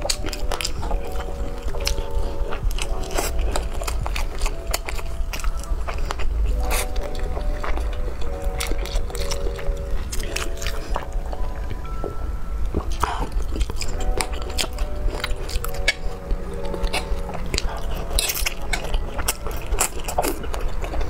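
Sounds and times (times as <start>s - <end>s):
wet chewing clicks: 0.0s - 21.0s.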